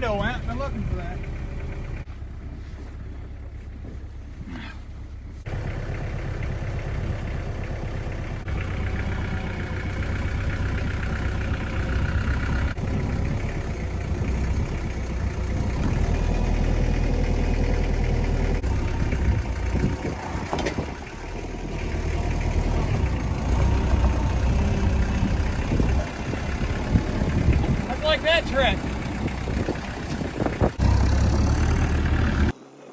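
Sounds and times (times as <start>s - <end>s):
diesel engine running: 0.0s - 32.6s.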